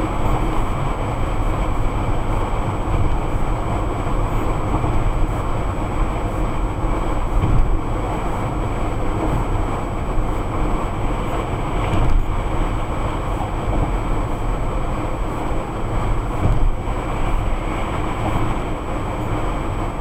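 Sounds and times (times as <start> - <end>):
car engine hum: 0.0 - 20.0
road and tyre noise: 0.0 - 20.0.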